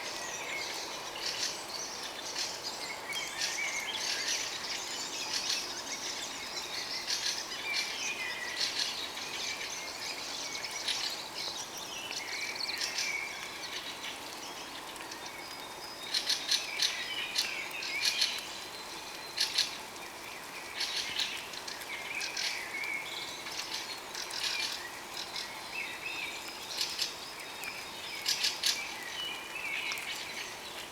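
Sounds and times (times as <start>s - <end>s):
songbirds singing: 0.0s - 30.9s.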